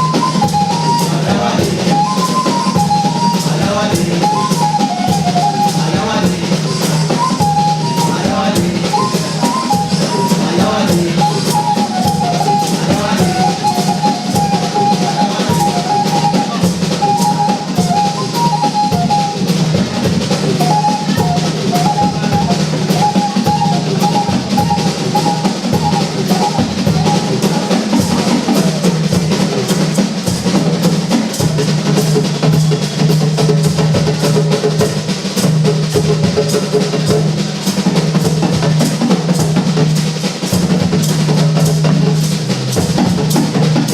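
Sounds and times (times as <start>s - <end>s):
busy drum kit: 0.0s - 43.9s.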